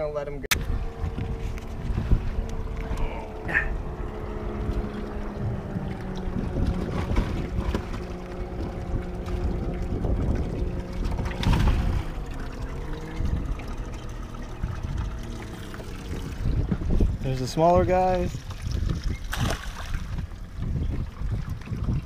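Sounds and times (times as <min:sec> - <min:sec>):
boat motor hum: 0:00.0 - 0:22.0
wind rumbling on microphone: 0:00.5 - 0:22.0.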